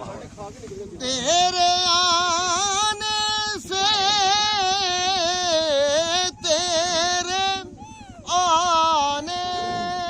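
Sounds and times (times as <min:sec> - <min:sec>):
high voice singing solo: 0:01.2 - 0:10.0.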